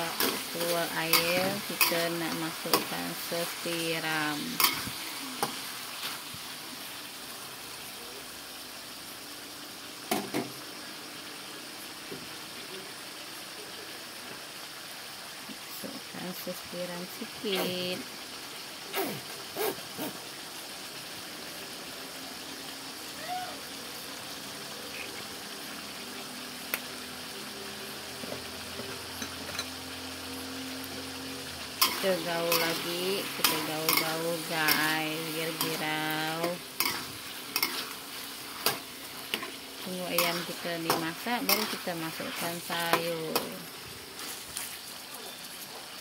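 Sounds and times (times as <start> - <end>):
chicken sizzling in a wok: 0.0 - 46.0.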